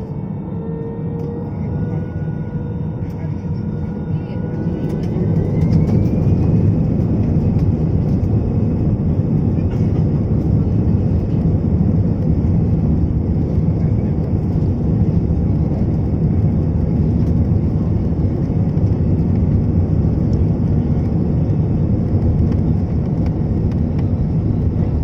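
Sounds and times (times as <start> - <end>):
airliner cabin engine roar: 0.0 - 25.0.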